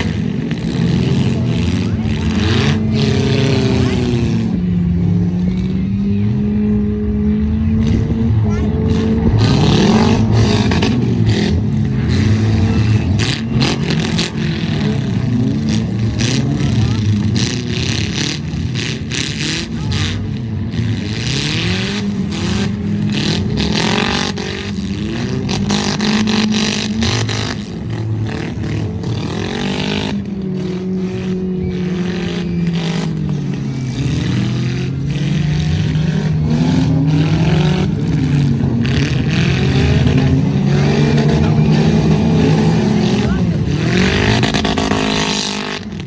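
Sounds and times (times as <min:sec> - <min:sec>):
vehicle engines revving: 0:00.0 - 0:46.0.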